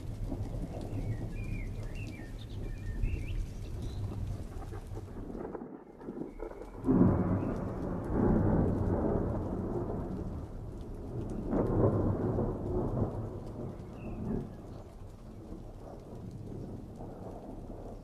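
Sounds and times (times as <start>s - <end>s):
thunder rolling: 0.0s - 18.0s.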